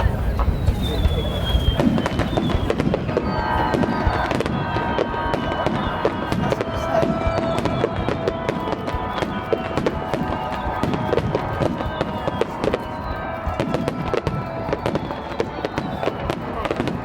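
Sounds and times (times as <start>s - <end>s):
fireworks bursting and crackling: 0.0s - 17.0s
music playing: 2.2s - 17.0s.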